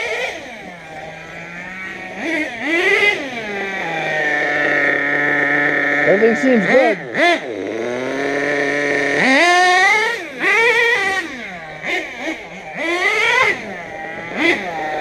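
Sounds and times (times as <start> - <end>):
nitro engine buzzing and revving: 0.0 - 15.0.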